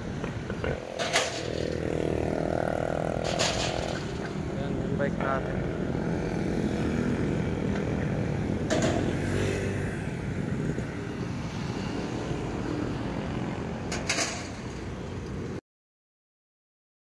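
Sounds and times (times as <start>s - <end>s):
road traffic rumble: 0.0s - 15.6s.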